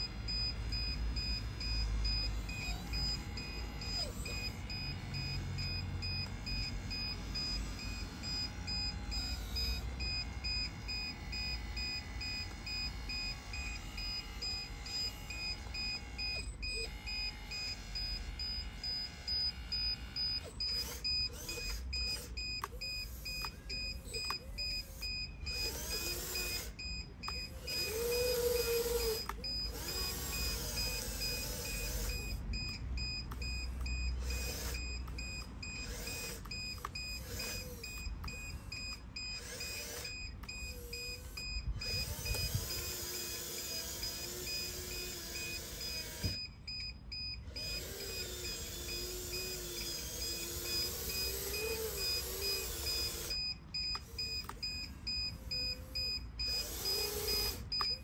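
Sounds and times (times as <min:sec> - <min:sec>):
hydraulic pump whining: 0:00.0 - 0:58.0.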